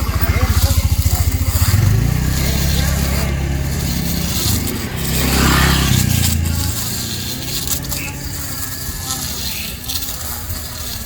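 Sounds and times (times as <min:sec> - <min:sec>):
electric mower motor humming: 0:00.0 - 0:11.0.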